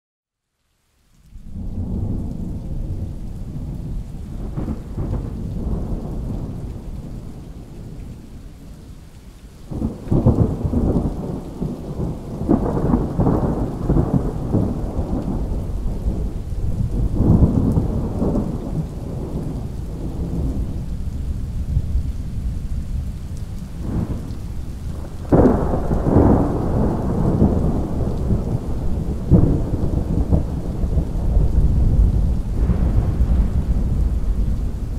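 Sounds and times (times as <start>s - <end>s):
steady rain: 0.3s - 34.9s
rolling thunder: 1.5s - 8.0s, 9.7s - 34.9s.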